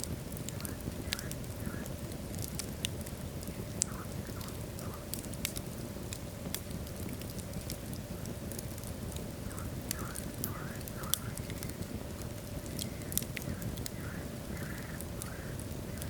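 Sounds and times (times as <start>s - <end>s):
fire rumbling: 0.0s - 16.0s
wood crackling and popping: 0.0s - 16.0s.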